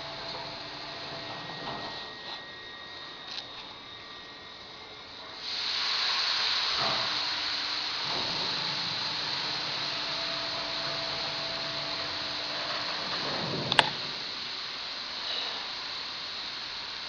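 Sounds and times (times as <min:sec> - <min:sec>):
platform lift hissing: 0:00.0 - 0:17.0.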